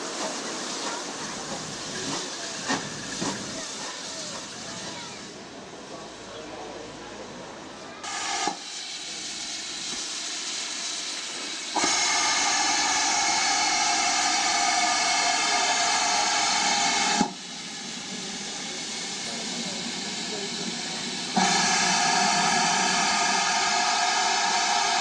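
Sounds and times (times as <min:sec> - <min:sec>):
loud rush of escaping steam: 0:00.0 - 0:06.1, 0:07.5 - 0:25.0
steam locomotive hissing: 0:00.0 - 0:25.0.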